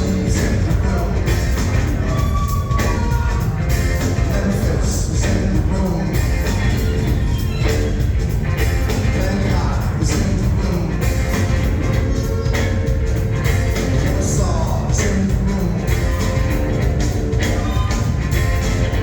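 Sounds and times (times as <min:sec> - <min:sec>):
heavy bass line: 0:00.0 - 0:19.0
rock band playing live: 0:00.0 - 0:19.0.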